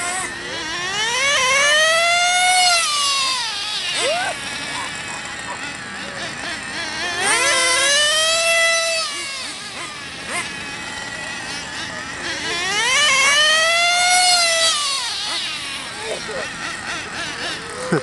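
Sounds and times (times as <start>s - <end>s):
small two-stroke engine revving: 0.0s - 18.0s.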